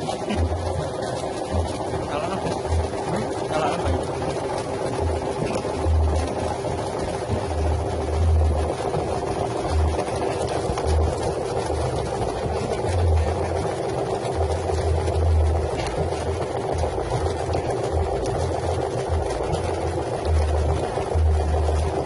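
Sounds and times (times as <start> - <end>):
machine motor hum: 0.0 - 22.0.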